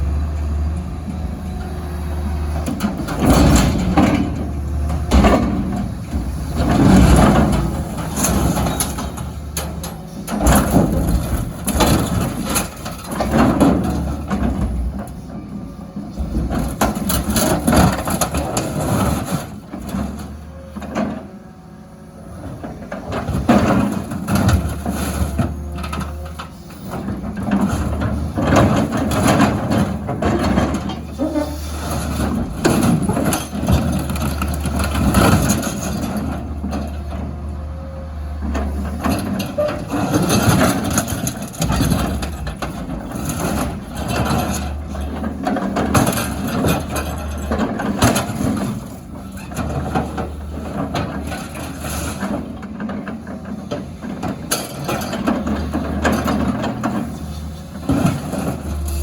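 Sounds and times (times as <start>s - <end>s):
diesel engine hum: 0.0s - 59.0s
metal crunching and banging: 2.2s - 21.4s, 22.3s - 59.0s.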